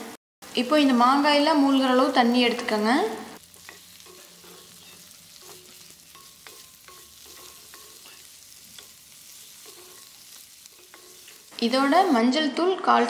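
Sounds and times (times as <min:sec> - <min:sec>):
hot oil sizzling: 0:00.4 - 0:12.7.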